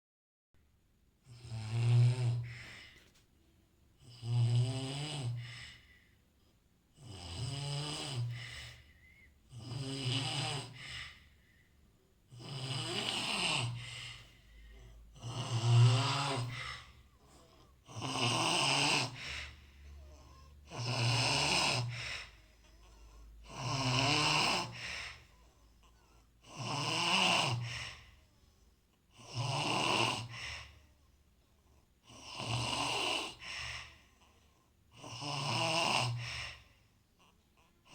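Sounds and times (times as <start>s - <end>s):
person snoring: 1.2s - 3.0s, 4.0s - 6.0s, 6.9s - 11.4s, 12.3s - 28.2s, 29.1s - 31.0s, 32.0s - 34.3s, 34.9s - 37.9s.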